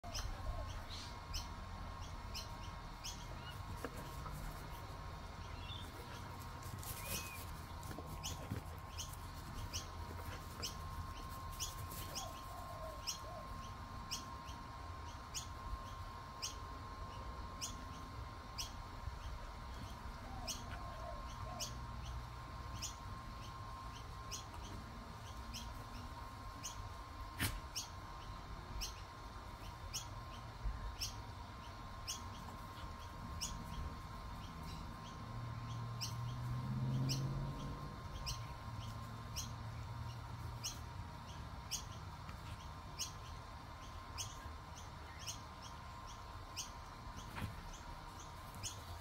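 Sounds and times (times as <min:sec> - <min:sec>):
faint birds chirping: 0:00.0 - 0:49.0.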